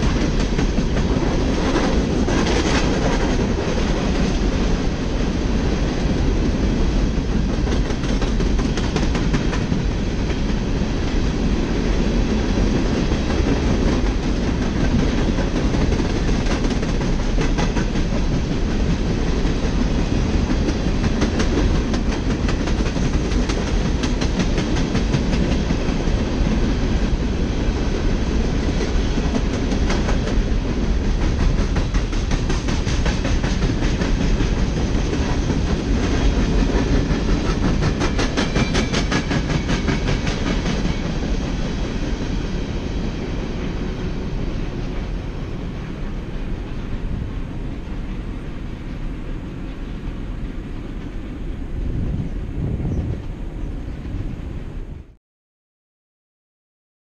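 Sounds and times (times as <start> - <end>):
rail cars rumbling past: 0.0 - 55.2.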